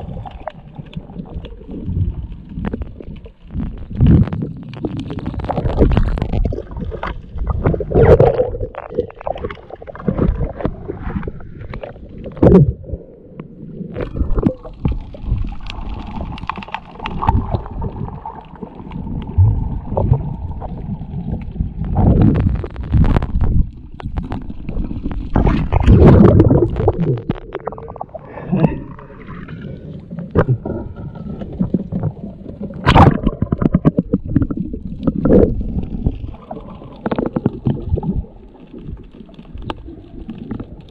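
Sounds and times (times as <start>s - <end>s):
underwater rumbling and gurgling: 0.0s - 40.9s.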